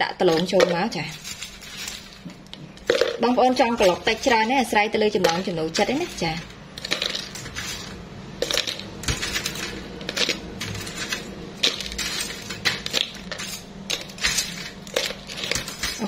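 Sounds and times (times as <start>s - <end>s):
metal tongs clinking on wire basket: 2.8s - 16.0s.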